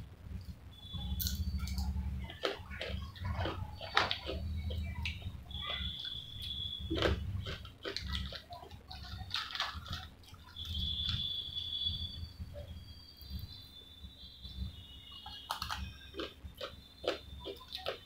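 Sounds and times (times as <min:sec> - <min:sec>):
chewing fries: 0:00.0 - 0:18.0.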